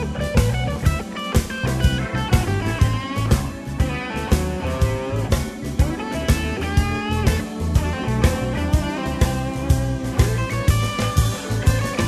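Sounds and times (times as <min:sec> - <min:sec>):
rock music with electric guitar: 0:00.0 - 0:12.0
steady drum beat: 0:00.0 - 0:12.0.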